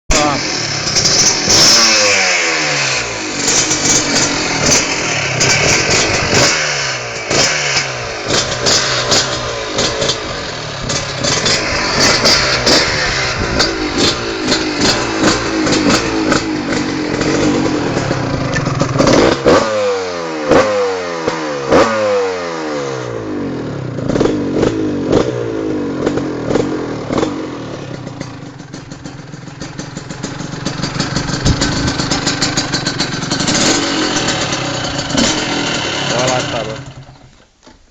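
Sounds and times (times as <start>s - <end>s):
two-stroke engine revving: 0.1s - 37.3s.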